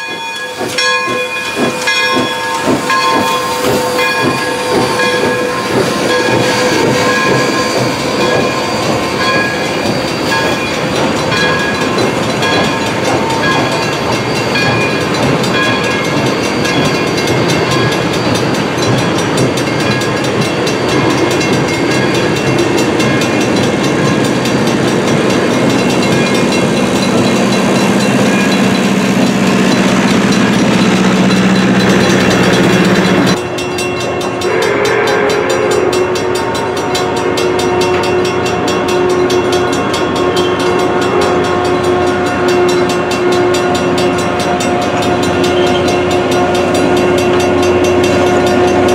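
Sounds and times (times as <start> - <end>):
crossing bell ringing: 0.0 - 48.9
train wheels clattering over rails: 0.0 - 48.9.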